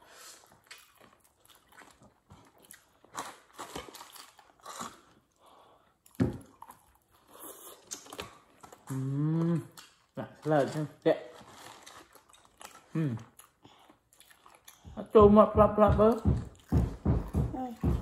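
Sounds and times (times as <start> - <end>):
people chewing crispy chicken: 0.0 - 15.2.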